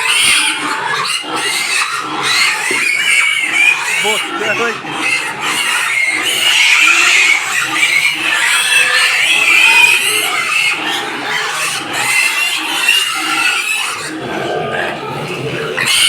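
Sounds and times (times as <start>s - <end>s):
pigs squealing: 0.0s - 16.0s.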